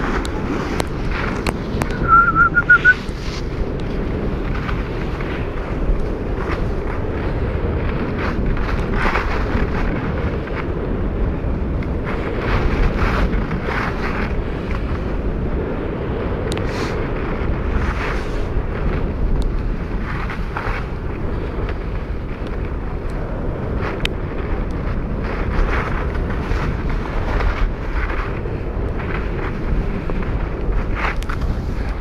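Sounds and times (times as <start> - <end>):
ski edges scraping snow: 0.0 - 10.4, 12.1 - 15.1, 16.6 - 22.1, 25.2 - 32.0
wind buffeting microphone: 0.0 - 32.0.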